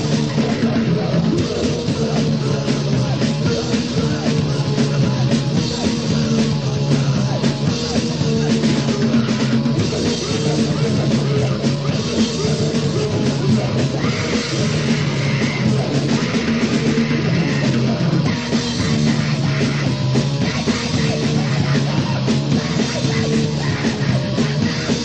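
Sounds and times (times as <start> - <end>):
loud distorted punk music: 0.0 - 25.0.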